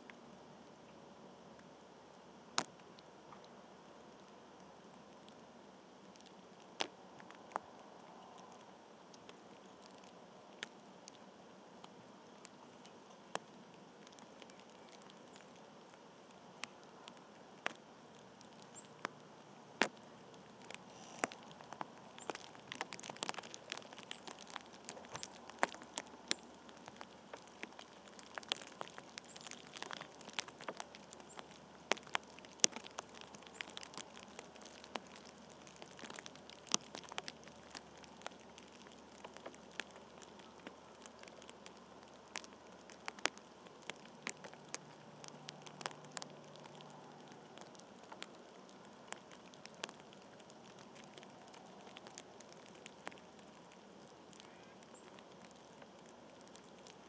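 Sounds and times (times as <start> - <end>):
faint steady hiss: 0.0 - 57.0
sharp ticks and clicks: 6.0 - 57.0.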